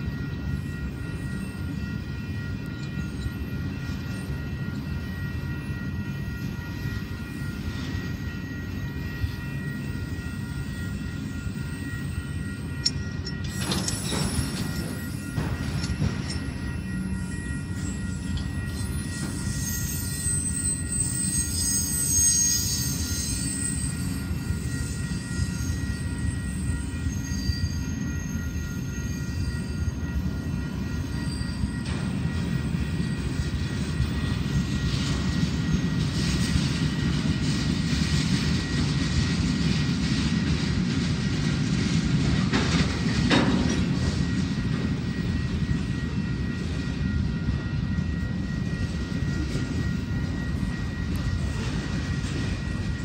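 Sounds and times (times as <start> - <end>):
freight train rolling on rails: 0.0 - 53.0.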